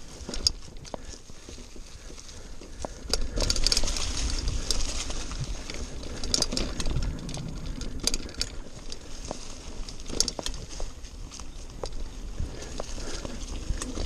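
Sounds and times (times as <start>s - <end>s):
bike clicks and rattles: 0.0s - 14.0s
bike tyres over dry leaves: 0.0s - 14.0s.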